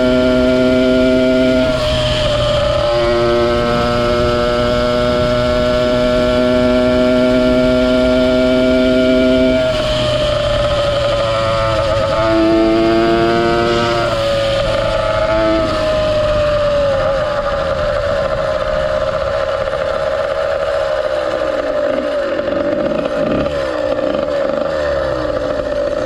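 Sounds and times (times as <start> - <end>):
two-stroke engine at high revs: 0.0 - 26.0.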